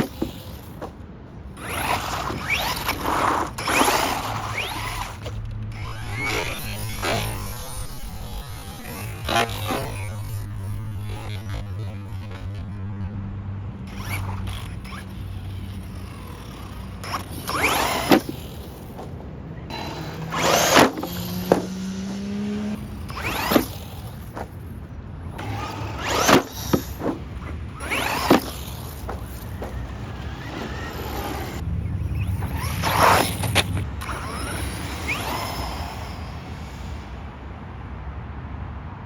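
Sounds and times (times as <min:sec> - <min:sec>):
rc car electric motor whining: 0:00.0 - 0:01.0, 0:01.6 - 0:24.7, 0:25.3 - 0:37.3.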